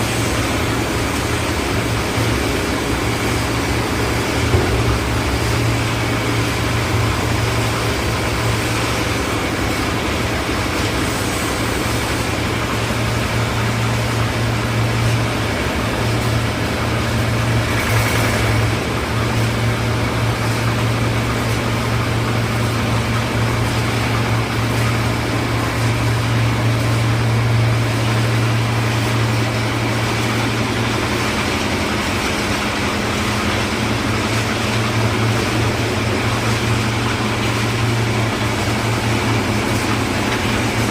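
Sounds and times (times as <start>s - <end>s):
concrete mixer engine running: 0.0s - 40.9s.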